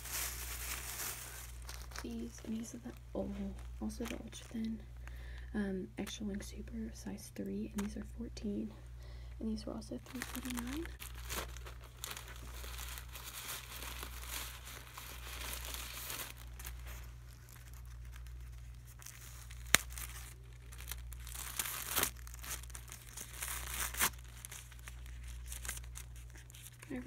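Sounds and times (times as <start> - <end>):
plastic packaging crinkling: 0.0 - 5.4, 9.5 - 27.0.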